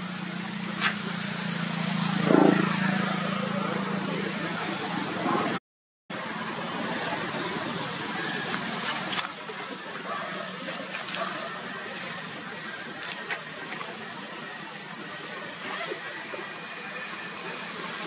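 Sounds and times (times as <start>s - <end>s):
insect chorus drone: 0.0s - 18.0s.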